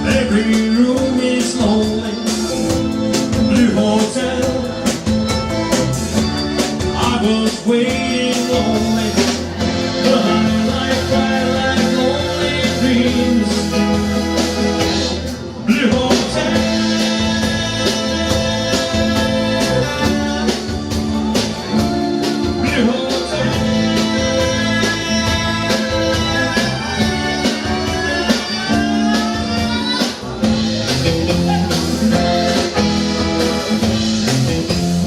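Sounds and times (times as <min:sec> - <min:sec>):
drums at a steady beat: 0:00.0 - 0:35.0
guitar: 0:00.0 - 0:35.0
live rock band playing: 0:00.0 - 0:35.0.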